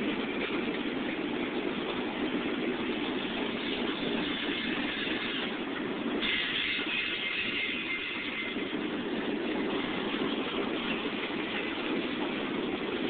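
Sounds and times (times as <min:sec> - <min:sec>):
steel wheels rolling on rail: 0:00.0 - 0:13.0.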